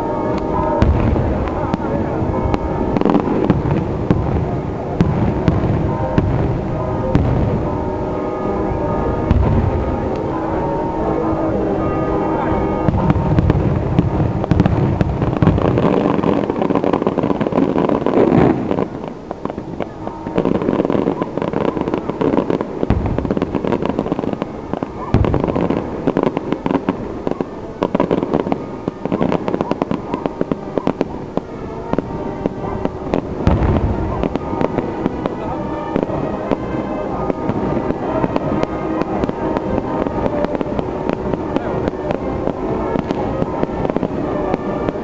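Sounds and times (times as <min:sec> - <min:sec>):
firework crackling: 0:00.0 - 0:45.0
firework deep booms: 0:00.0 - 0:45.0.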